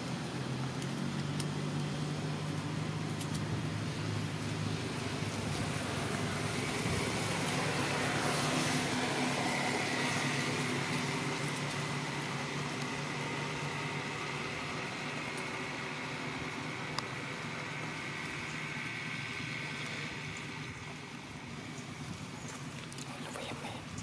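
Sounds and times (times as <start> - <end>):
road traffic with low hum: 0.0 - 24.0.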